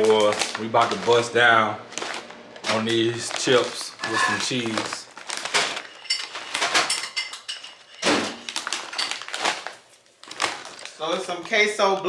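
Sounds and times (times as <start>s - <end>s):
chip bag rustling: 0.0s - 12.0s.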